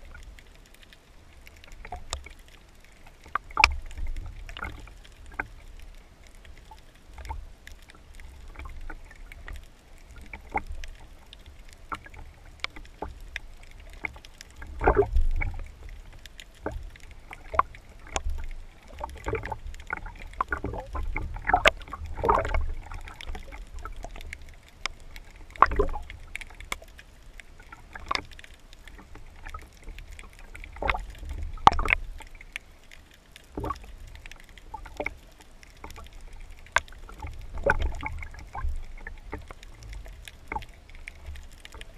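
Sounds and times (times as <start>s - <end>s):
underwater water sloshing and gurgling: 0.0s - 41.9s.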